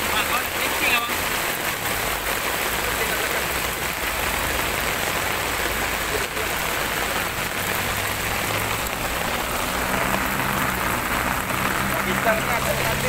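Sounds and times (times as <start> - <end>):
heavy rain on water and pavement: 0.0 - 13.0.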